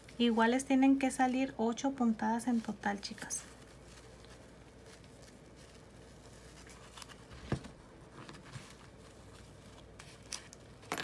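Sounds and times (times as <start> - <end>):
ribbon rustling: 0.0 - 10.9.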